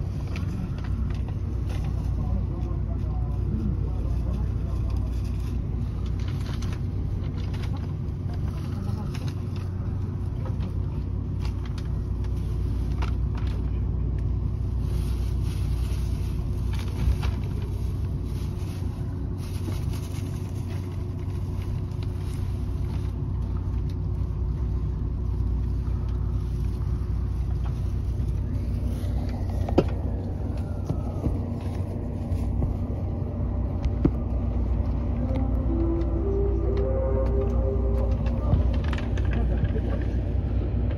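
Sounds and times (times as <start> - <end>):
train cabin hum and rumble: 0.0 - 40.9.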